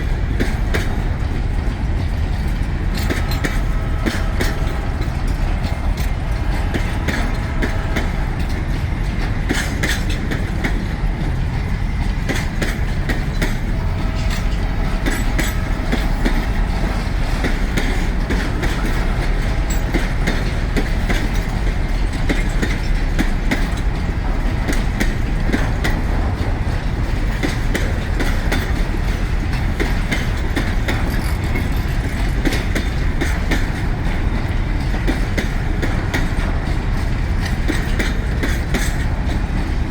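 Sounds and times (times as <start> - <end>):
freight train rumbling past: 0.0 - 39.9
wheels clicking over rail joints: 0.0 - 39.9.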